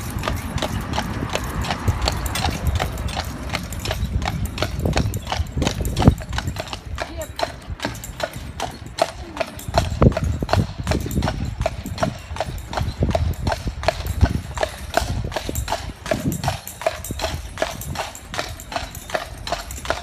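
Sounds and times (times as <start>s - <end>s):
hooves clip-clopping on pavement: 0.0s - 20.0s
low rumble of carriage: 0.0s - 20.0s.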